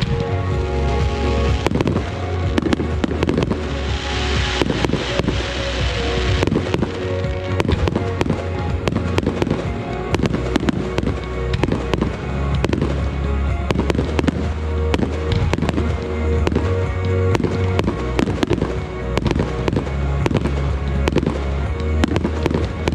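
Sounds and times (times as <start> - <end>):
fireworks bangs and cracks: 0.0 - 22.9
fireworks hissing crackle: 0.0 - 22.9
music with steady bass: 0.0 - 22.9.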